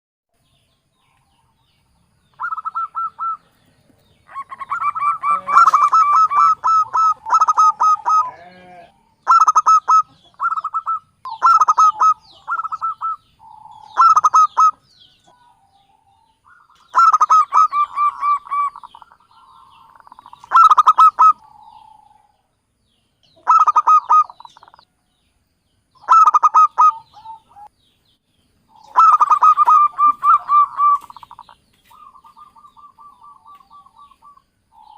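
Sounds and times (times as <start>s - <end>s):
zebra dove cooing: 2.3s - 3.5s, 4.2s - 15.9s, 16.5s - 22.4s, 23.3s - 24.8s, 26.0s - 27.7s, 28.7s - 34.9s.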